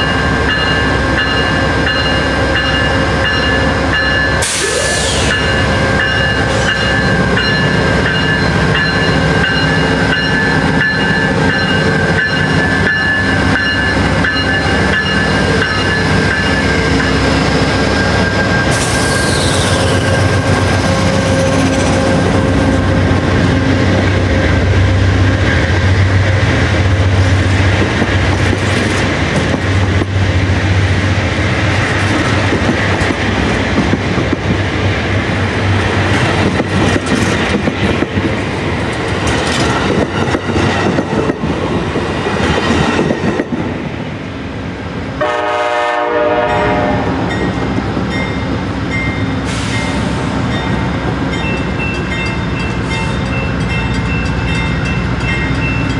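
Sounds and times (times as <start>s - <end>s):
train wheels clicking on rails: 0.0s - 45.0s, 46.6s - 55.9s
diesel locomotive engine drone: 0.0s - 55.9s.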